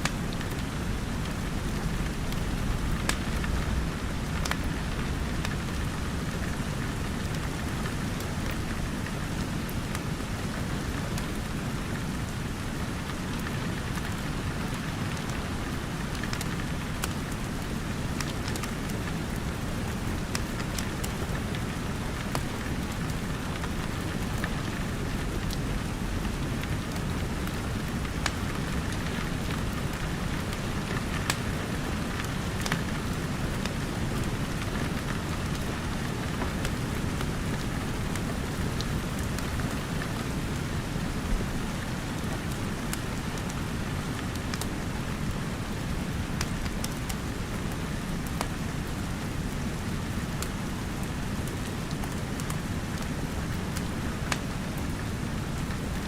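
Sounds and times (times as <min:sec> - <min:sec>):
fire crackling and popping: 0:00.0 - 0:56.0
steady rain falling: 0:00.0 - 0:56.0.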